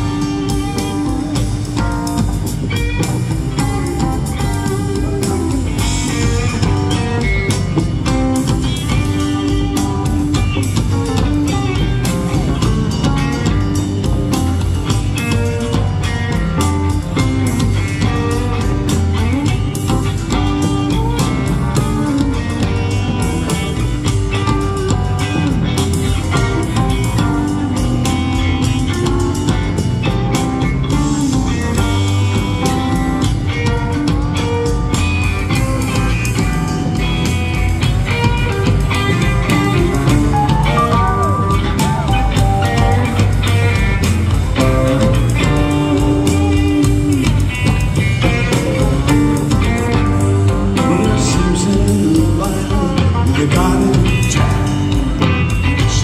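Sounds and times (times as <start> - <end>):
drum kit: 0.0 - 56.0
electric guitar: 0.0 - 56.0
pedal steel guitar: 0.0 - 56.0.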